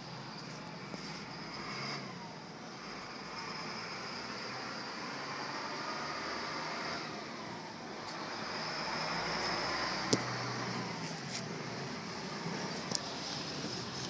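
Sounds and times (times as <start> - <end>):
motor vehicle noise: 0.0 - 14.0.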